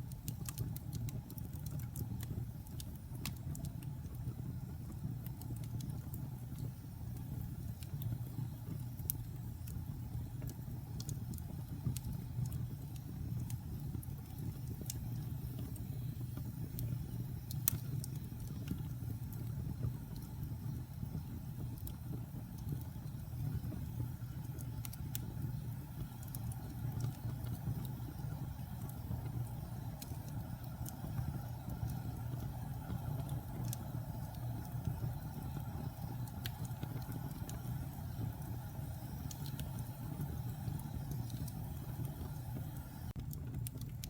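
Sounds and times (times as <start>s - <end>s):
burning logs crackling and popping: 0.0s - 44.0s
flames rumbling: 0.0s - 44.0s.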